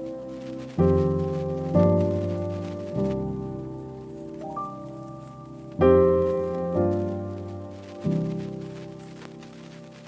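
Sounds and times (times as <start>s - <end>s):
keyboard chord: 0.0s - 10.0s.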